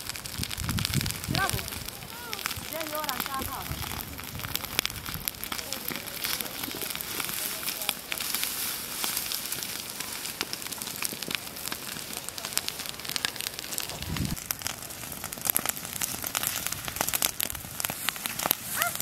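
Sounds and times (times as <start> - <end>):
dry grass crackling as it burns: 0.0 - 19.0.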